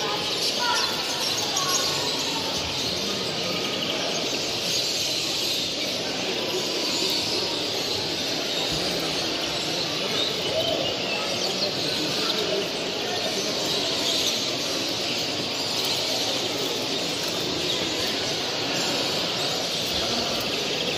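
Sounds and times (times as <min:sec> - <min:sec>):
finches chirping and twittering: 0:00.0 - 0:20.9.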